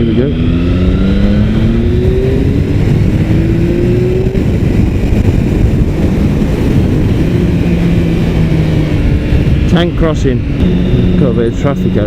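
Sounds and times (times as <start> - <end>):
motorcycle engine accelerating: 0.0 - 12.0
wind rumble on microphone: 0.0 - 12.0.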